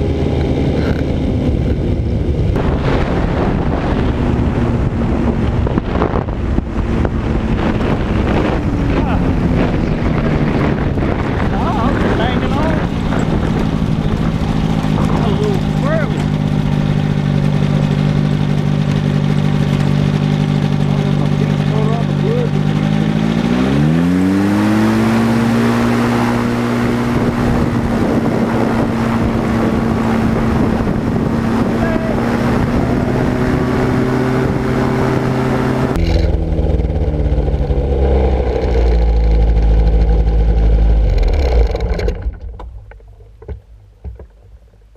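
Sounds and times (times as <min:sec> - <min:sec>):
trike engine and propeller running: 0:00.0 - 0:44.9.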